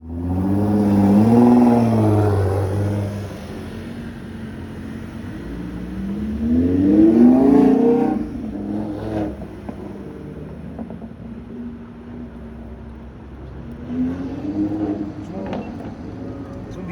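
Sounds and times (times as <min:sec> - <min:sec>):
car engine accelerating past: 0:00.0 - 0:16.9
traffic hum: 0:00.0 - 0:16.9.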